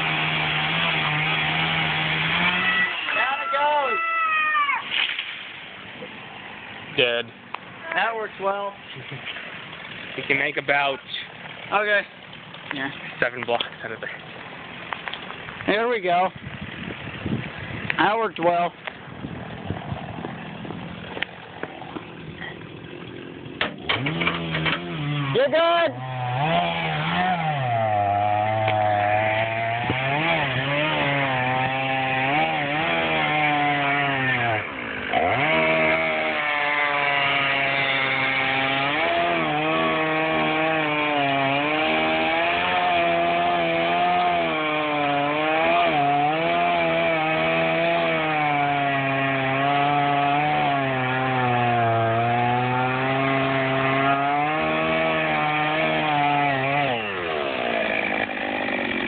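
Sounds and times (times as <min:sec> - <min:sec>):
chainsaw cutting wood: 0:00.0 - 0:06.1, 0:14.6 - 0:59.0.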